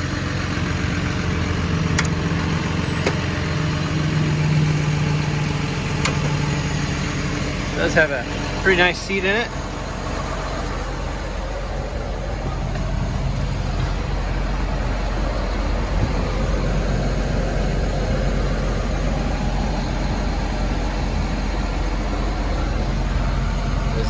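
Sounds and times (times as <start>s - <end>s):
bulldozer diesel engine idling: 0.0s - 24.0s.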